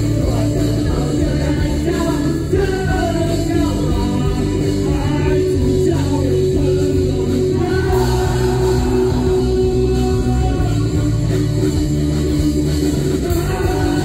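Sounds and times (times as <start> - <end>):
bass guitar: 0.0 - 14.0
drum kit: 0.0 - 14.0
electric guitars: 0.0 - 14.0
person singing: 0.0 - 14.0.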